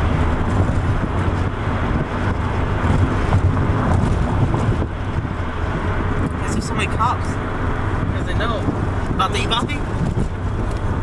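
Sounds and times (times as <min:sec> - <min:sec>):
engine drone: 0:00.0 - 0:11.0
tyre and wind noise: 0:00.0 - 0:11.0.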